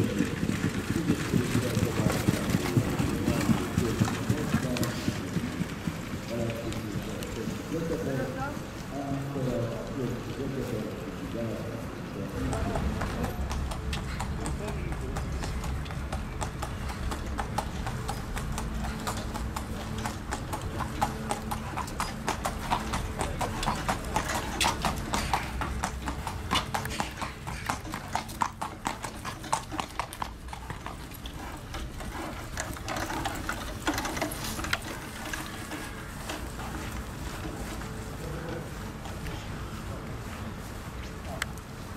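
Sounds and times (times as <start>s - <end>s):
hooves clip-clopping on pavement: 0.0s - 41.9s.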